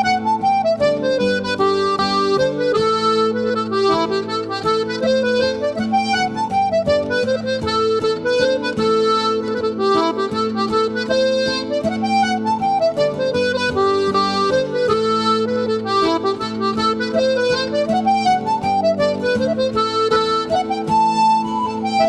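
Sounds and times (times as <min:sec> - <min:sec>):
accordion melody: 0:00.0 - 0:22.0.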